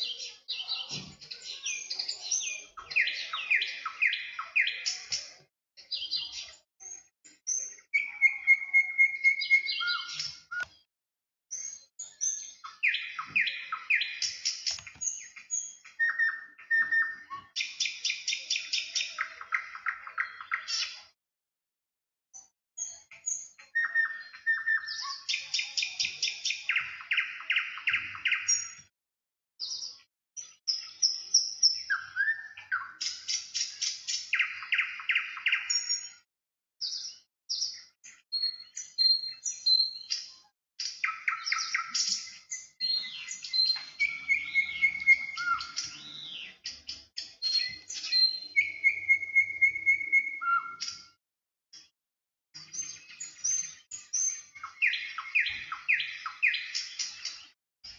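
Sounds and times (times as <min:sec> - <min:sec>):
songbirds singing trills: 0:00.0 - 0:10.9, 0:11.5 - 0:21.2, 0:22.4 - 0:28.9, 0:29.6 - 0:51.2, 0:52.6 - 0:57.9.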